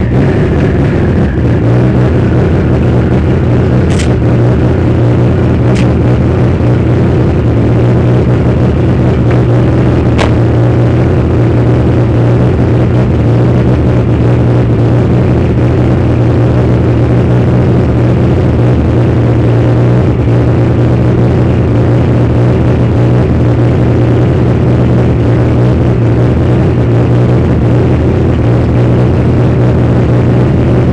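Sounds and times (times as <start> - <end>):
loud car engine running: 0.0 - 30.9.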